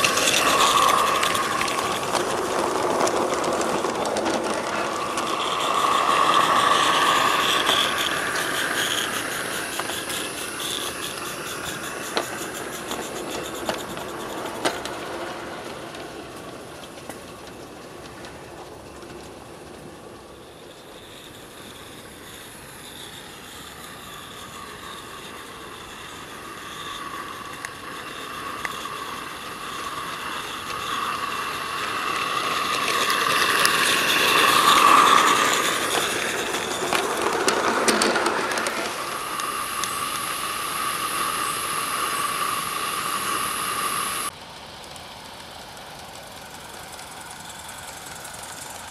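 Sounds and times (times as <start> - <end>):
model steam train running on track: 0.0 - 48.9.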